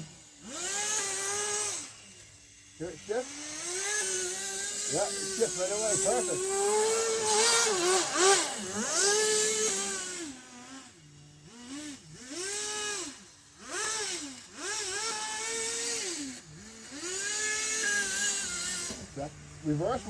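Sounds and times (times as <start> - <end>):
small nitro engine revving: 0.0 - 20.0.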